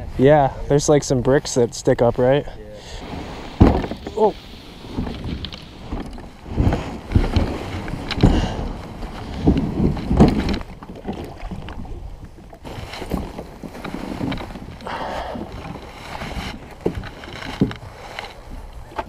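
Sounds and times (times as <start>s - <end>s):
kayak hull knocks and thumps: 3.0s - 19.0s.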